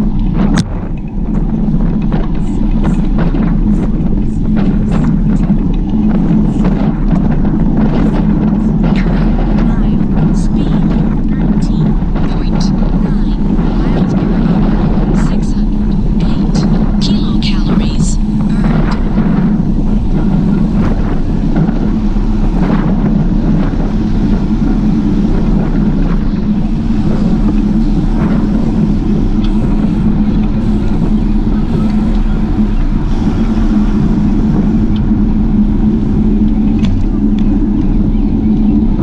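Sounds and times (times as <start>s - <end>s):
rolling road noise: 0.0s - 39.0s
wind buffeting microphone: 0.0s - 39.0s.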